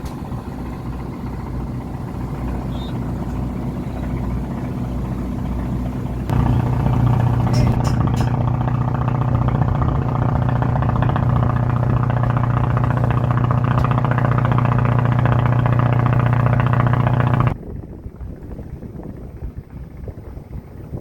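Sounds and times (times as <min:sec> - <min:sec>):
loud motor hum: 0:00.0 - 0:17.6.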